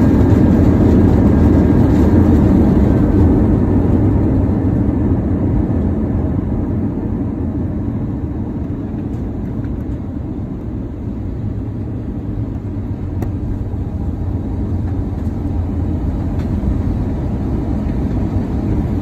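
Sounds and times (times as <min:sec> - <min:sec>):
airliner engine and wheel rumble: 0:00.0 - 0:19.0.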